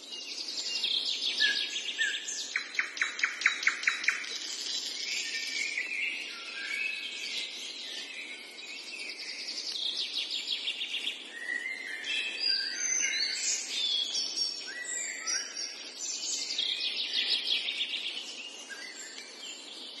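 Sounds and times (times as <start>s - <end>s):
birds singing and calling: 0.0s - 20.0s
steady background hiss: 0.0s - 20.0s.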